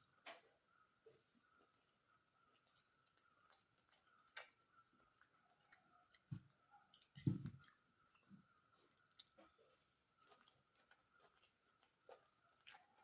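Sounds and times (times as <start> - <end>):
mouth clicks and soft chewing: 0.0 - 13.0.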